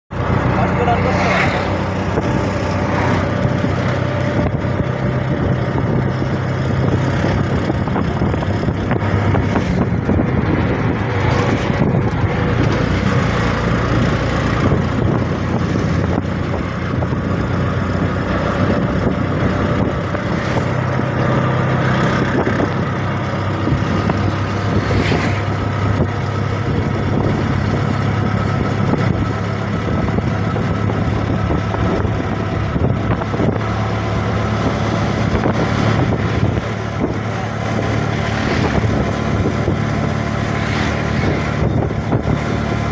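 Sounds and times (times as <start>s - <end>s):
road and wind noise: 0.0s - 42.9s
small engine running: 0.2s - 42.9s.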